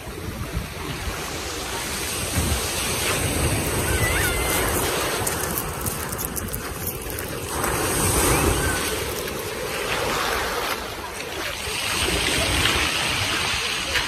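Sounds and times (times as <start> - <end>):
waves washing up shingle: 0.0 - 14.0
wind rumbling on microphone: 0.0 - 14.0.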